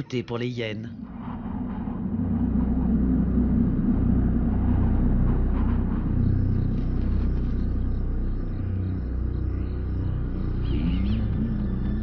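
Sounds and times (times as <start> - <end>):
low rumbling drone: 0.0 - 12.0.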